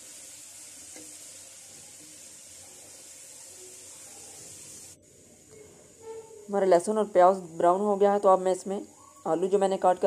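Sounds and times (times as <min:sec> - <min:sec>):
onions sizzling in hot oil: 0:00.0 - 0:08.6.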